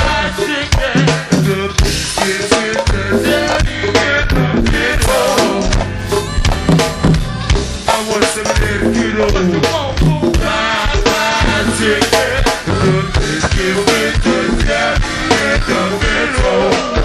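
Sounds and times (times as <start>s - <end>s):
drum kit and percussion beat: 0.0s - 17.0s
live band playing: 0.0s - 17.0s
voices singing: 0.0s - 17.0s.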